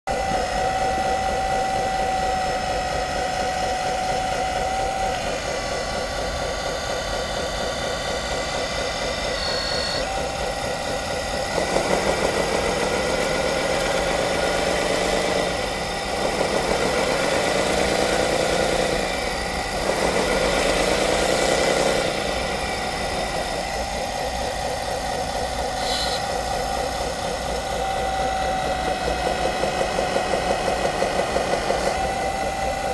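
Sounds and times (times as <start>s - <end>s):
simulated diesel engine idling and revving: 0.1s - 32.9s.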